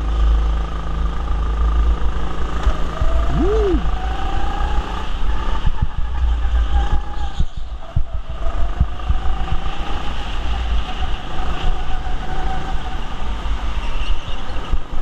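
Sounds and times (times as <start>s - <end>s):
faint engine whine: 0.0s - 15.0s
go-kart rumble and rattle: 0.0s - 15.0s.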